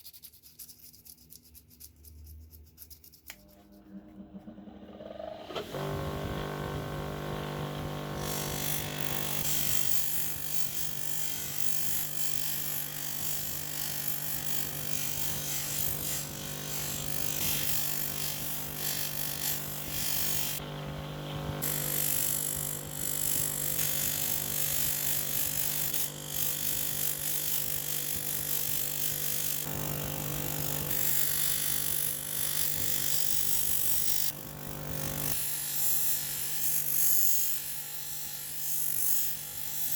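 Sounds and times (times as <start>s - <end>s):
power tool motor hum: 4.2s - 39.9s.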